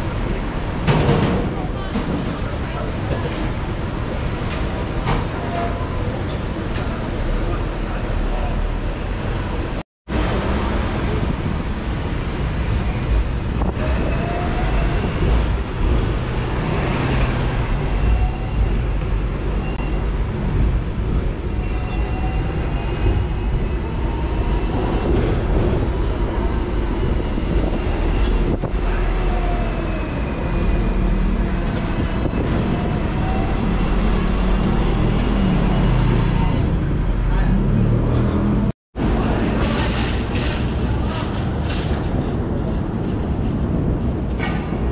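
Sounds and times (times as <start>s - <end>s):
tram wheels rumbling: 0.0s - 44.9s.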